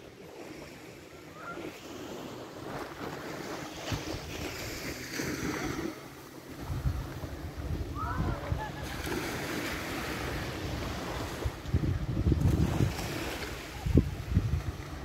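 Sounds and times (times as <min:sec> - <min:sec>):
surf washing on beach: 0:00.0 - 0:15.0
wind gusting on microphone: 0:01.4 - 0:15.0.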